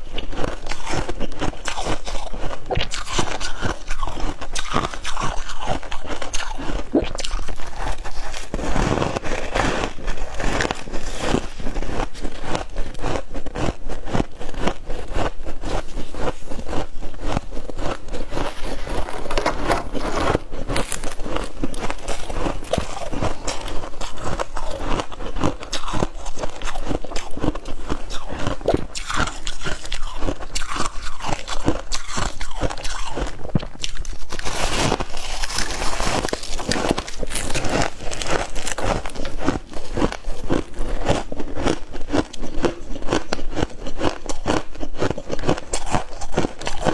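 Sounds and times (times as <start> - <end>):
chewing crunchy ice: 0.0 - 46.9.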